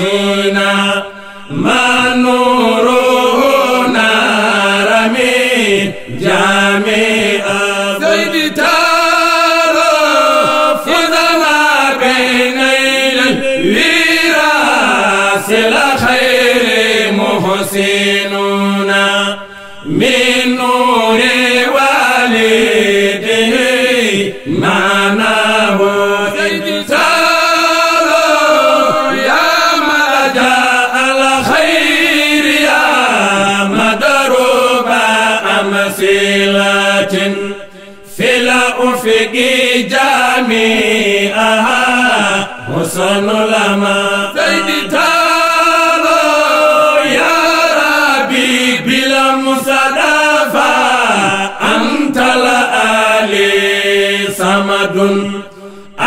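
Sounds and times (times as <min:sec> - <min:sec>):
men chanting a praise song: 0:00.0 - 0:56.0.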